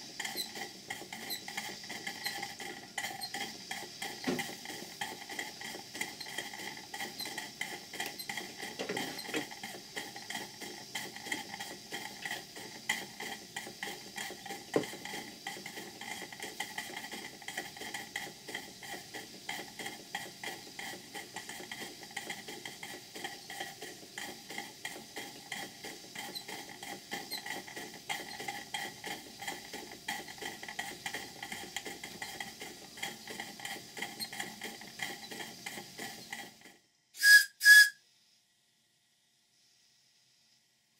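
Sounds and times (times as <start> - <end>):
model steam engines running: 0.0 - 37.9
steam hiss: 0.0 - 38.5.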